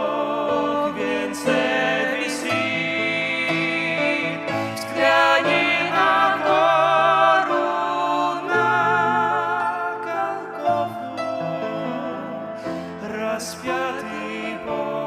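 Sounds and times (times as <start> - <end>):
slow hymn with accompaniment: 0.0 - 15.0.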